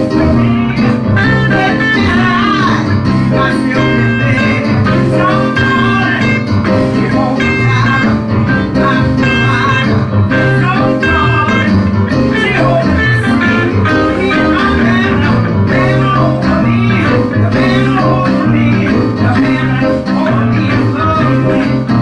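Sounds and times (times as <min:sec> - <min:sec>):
church band playing: 0:00.0 - 0:22.0
guitar lead with bending notes: 0:00.0 - 0:22.0
steady bass line: 0:00.0 - 0:22.0.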